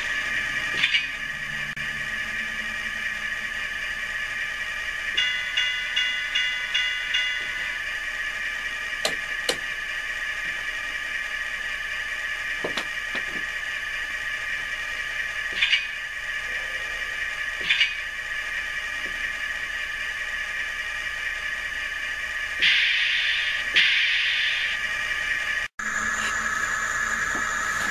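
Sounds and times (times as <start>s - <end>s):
model locomotive engine idle hum: 0.0s - 27.9s.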